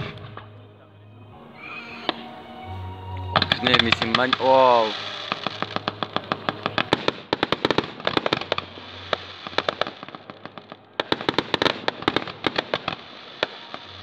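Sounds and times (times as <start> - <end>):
fireworks crackling pops: 0.0 - 0.6, 3.3 - 14.0.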